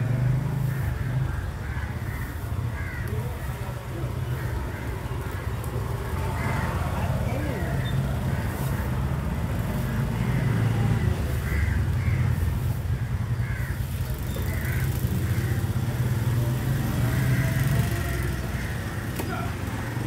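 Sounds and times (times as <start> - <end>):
crows cawing: 0.2 - 20.0.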